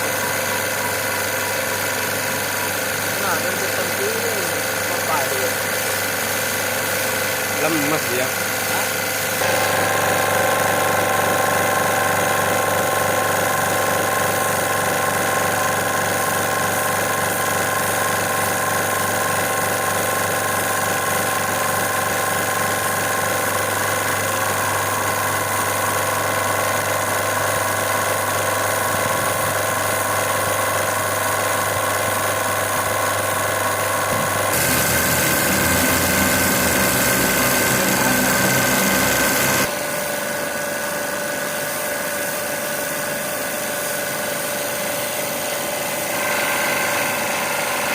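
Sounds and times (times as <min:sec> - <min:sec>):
pressure washer running: 0:00.0 - 0:47.9
water spray blasting floor: 0:00.0 - 0:47.9.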